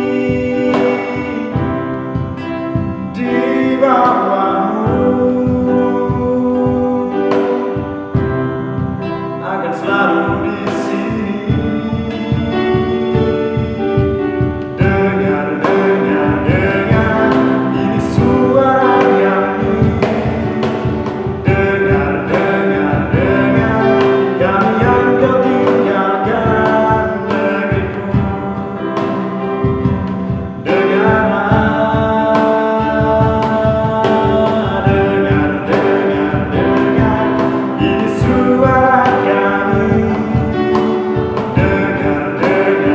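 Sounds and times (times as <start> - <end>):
cajon beat: 0.0 - 42.9
electronic keyboard: 0.0 - 42.9
man singing: 0.0 - 42.9
strummed acoustic guitar: 0.0 - 42.9.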